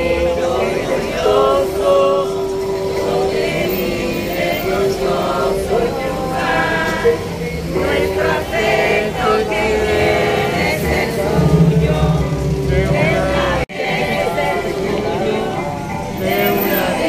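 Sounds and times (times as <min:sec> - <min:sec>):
crowd singing a hymn: 0:00.0 - 0:17.0.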